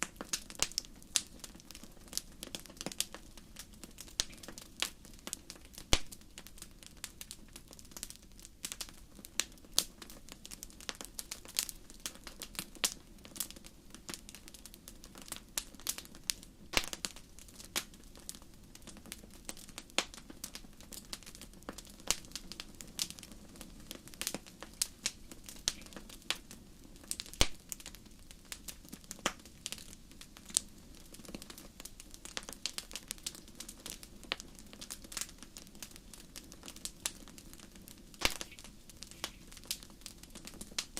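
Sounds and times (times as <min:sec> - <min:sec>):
fire crackling: 0:00.0 - 0:40.9
low steady hiss: 0:00.0 - 0:40.9.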